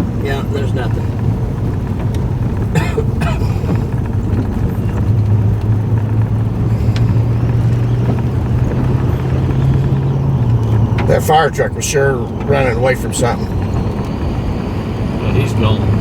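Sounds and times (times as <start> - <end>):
car engine and road drone: 0.0 - 16.0
rumbling tyre noise: 0.0 - 16.0.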